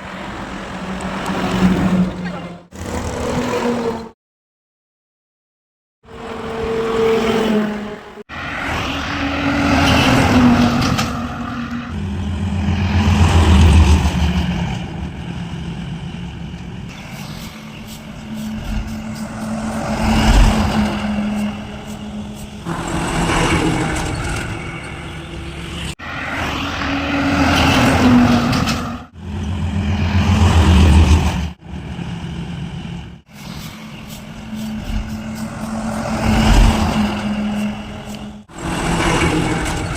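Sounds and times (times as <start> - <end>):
heavy trucks passing: 0.0 - 4.2, 6.1 - 39.9.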